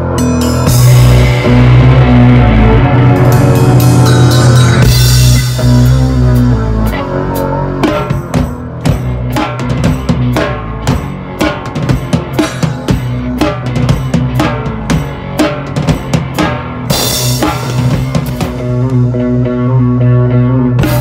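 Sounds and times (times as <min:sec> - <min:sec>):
held guitar notes: 0:00.0 - 0:21.0.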